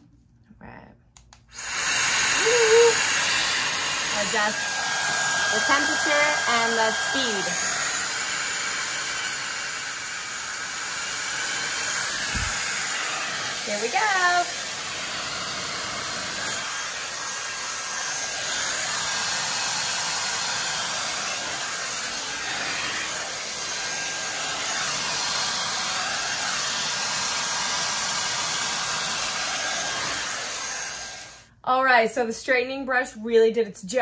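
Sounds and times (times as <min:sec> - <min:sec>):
hot-air brush blowing: 0:01.5 - 0:31.5.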